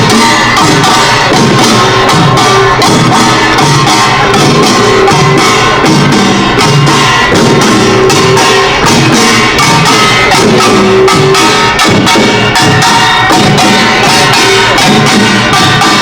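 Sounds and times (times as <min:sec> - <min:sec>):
drums: 0:00.0 - 0:16.0
small gongs clanging: 0:00.0 - 0:16.0.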